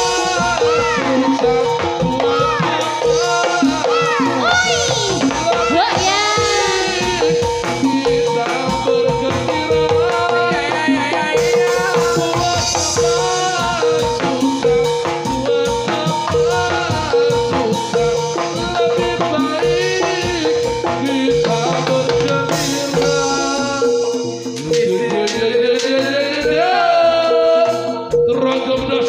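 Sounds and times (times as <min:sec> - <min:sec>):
bending melody line: 0:00.0 - 0:29.0
drums: 0:00.0 - 0:29.0
metallophone notes: 0:00.0 - 0:29.0.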